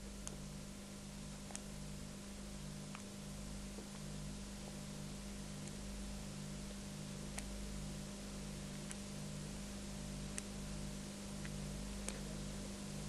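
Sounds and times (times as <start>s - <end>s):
low electrical hum and hiss: 0.0s - 13.0s.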